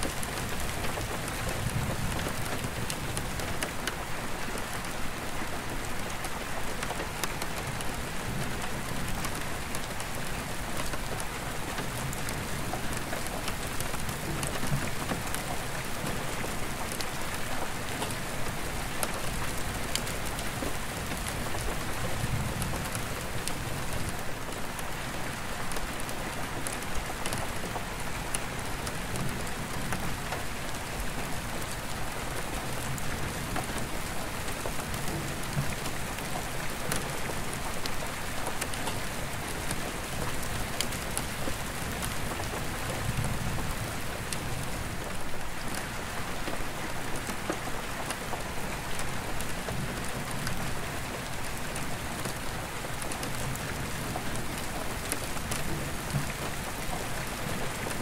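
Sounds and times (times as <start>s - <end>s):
rain on a skylight: 0.0s - 58.0s.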